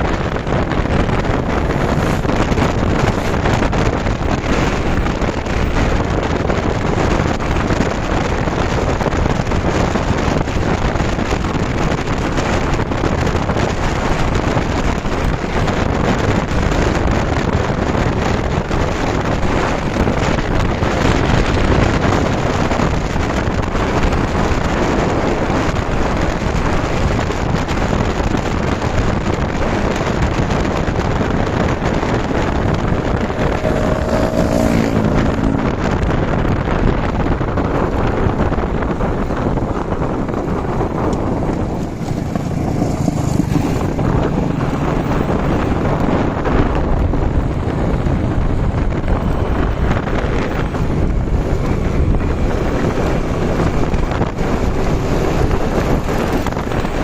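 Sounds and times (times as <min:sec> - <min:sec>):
motorbike engine running: 0:00.0 - 0:57.0
wind noise on microphone: 0:00.0 - 0:57.0.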